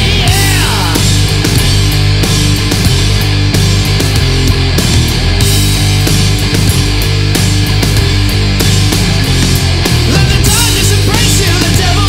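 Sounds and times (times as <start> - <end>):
distorted guitars and bass: 0.0 - 12.0
drum and cymbal hits: 0.0 - 12.0.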